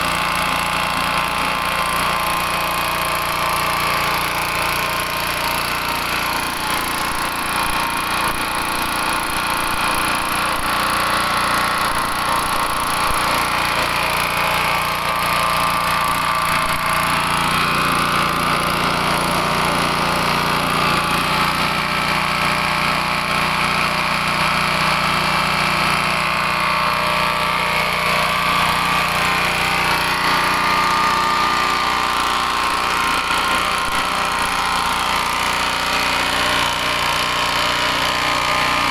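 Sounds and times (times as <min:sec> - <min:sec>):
pellet mill mechanical drone: 0:00.0 - 0:38.9.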